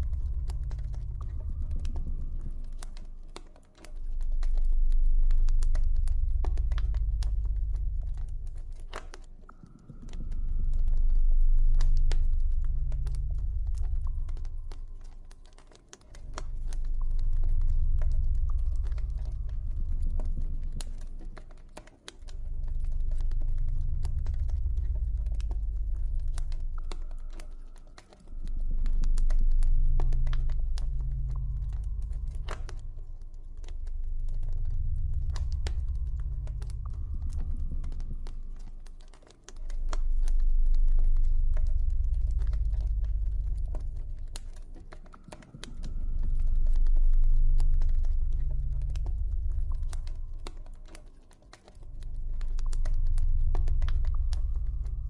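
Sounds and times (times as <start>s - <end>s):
deep low drone: 0.0s - 55.0s.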